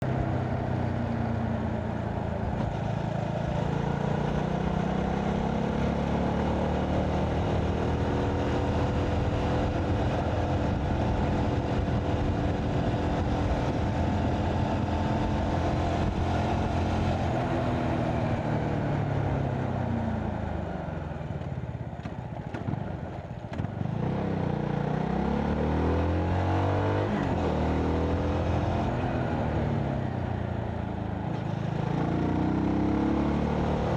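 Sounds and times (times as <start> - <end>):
motorcycle engine revving: 0.0 - 20.4, 21.3 - 33.9.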